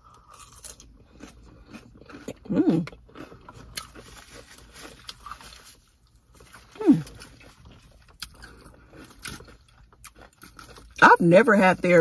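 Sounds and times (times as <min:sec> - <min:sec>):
person chewing salad: 0:00.0 - 0:11.0.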